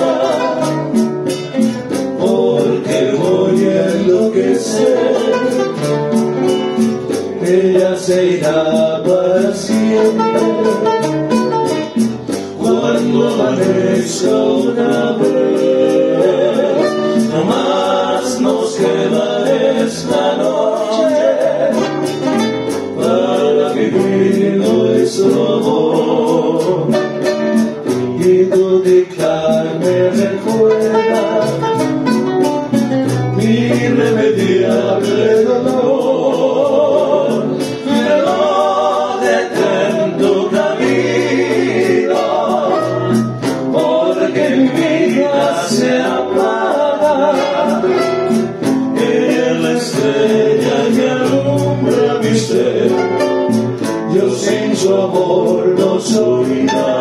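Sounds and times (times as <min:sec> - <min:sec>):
guitars playing: 0:00.0 - 0:57.0
voices singing in harmony: 0:00.0 - 0:57.0.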